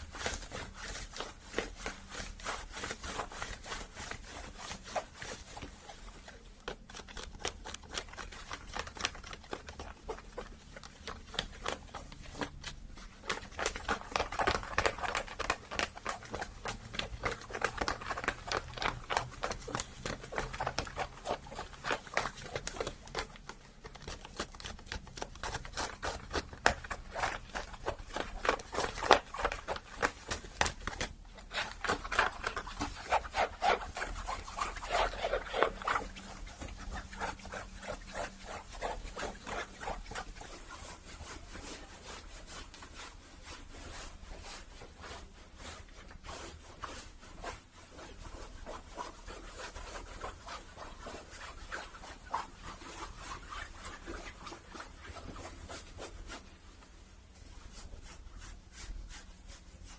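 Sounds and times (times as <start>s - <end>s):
hat fabric rubbing and scratching: 0.0s - 59.9s.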